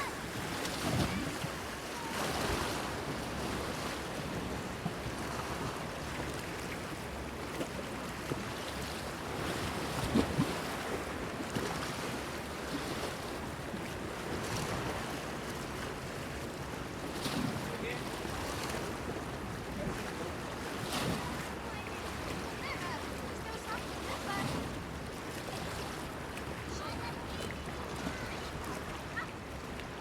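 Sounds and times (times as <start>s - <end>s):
sea waves splashing on a pier: 0.0s - 30.0s.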